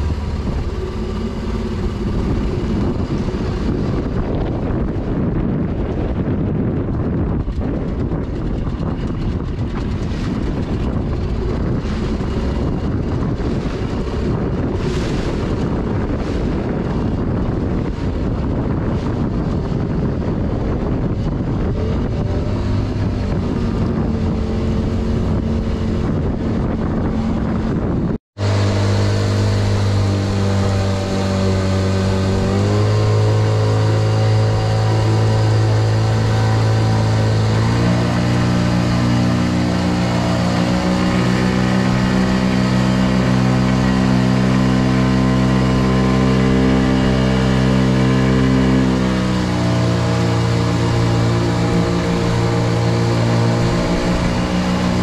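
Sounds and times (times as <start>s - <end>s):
outboard motor running: 0.0s - 55.0s
wind rushing over microphone: 0.0s - 55.0s.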